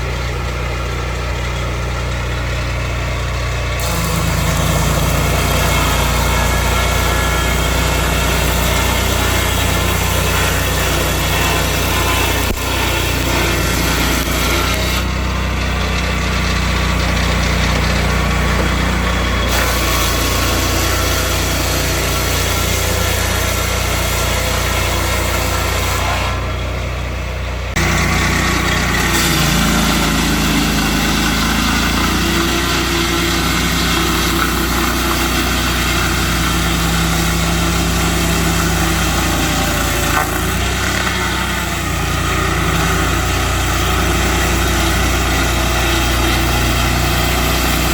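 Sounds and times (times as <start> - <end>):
saw cutting: 0.0 - 47.9
sawmill engine running: 0.0 - 47.9.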